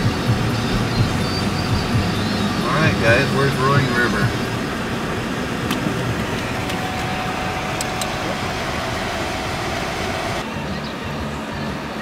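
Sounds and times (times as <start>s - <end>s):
car road and engine noise: 0.0s - 12.0s
dull low hum: 0.0s - 12.0s.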